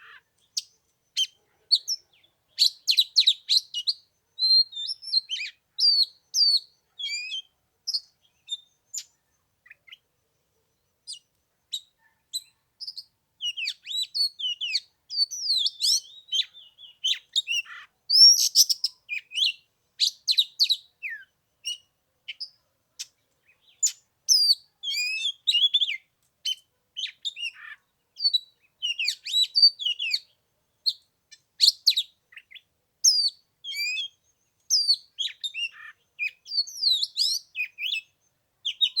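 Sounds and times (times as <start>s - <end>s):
bird singing whistled notes: 0.0s - 10.0s, 10.7s - 39.0s.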